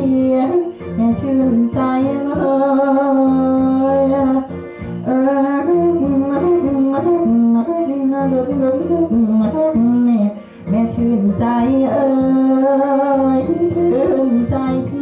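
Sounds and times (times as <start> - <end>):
hoarse voice singing: 0.0 - 15.0
instrumental accompaniment: 0.0 - 15.0.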